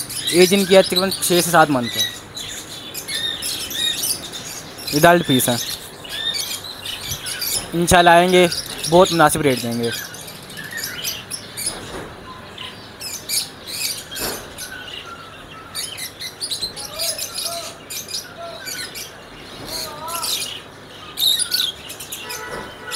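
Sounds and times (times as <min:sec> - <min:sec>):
lovebirds chirping: 0:00.0 - 0:22.9.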